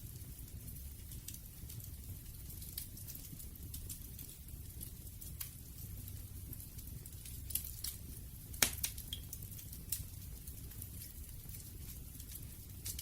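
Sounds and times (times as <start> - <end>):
campfire crackling and popping: 0.0 - 13.0
low fire rumble: 0.0 - 13.0.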